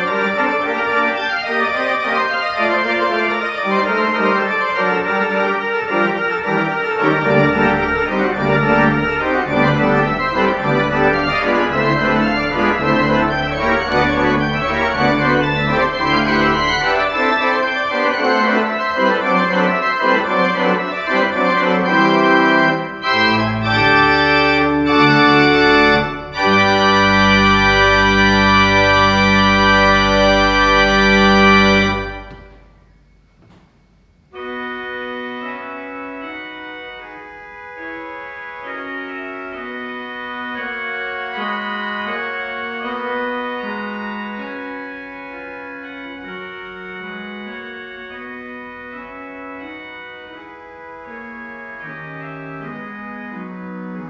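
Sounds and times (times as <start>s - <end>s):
church pipe organ playing: 0.0s - 33.0s, 34.3s - 54.0s.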